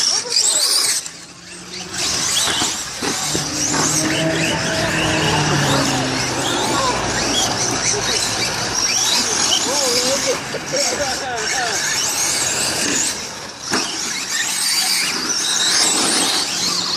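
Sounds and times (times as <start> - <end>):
rc car motor whining: 0.0 - 16.9.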